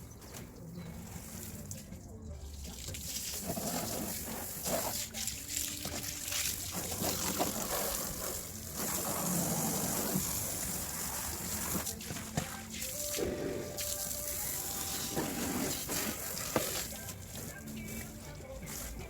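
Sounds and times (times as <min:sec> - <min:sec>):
water running and splashing: 0:00.9 - 0:19.0.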